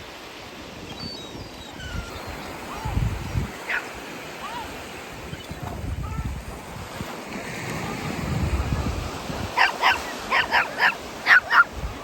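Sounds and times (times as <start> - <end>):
surf: 0.0 - 12.0
wind: 0.0 - 12.0
gulls calling: 0.8 - 6.4, 7.6 - 12.0.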